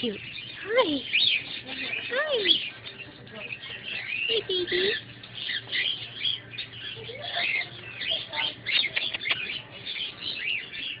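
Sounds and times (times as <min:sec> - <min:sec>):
small birds chirping rapidly: 0:00.0 - 0:11.0.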